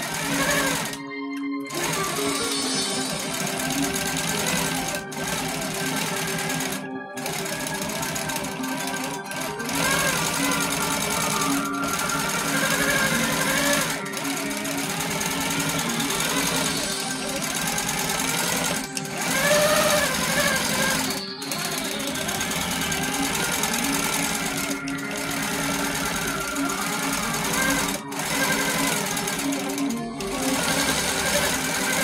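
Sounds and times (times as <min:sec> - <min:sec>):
background music: 0:00.0 - 0:32.0
quilting machine stitching: 0:00.0 - 0:32.0.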